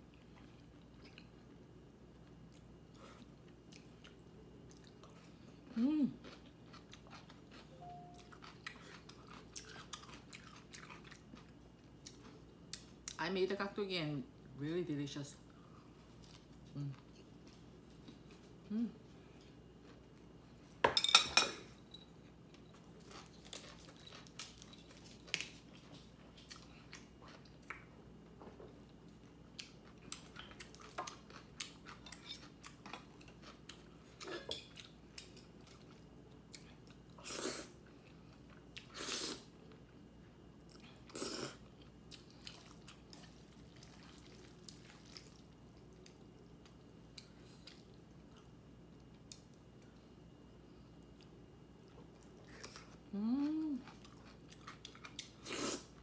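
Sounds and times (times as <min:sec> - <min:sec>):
person chewing with crunches: 0:00.0 - 0:13.2, 0:22.2 - 0:56.0.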